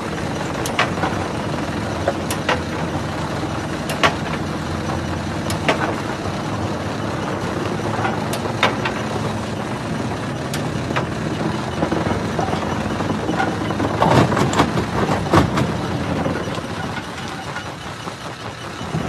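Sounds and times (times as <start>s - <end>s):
jaw crusher rumbling: 0.0s - 19.0s.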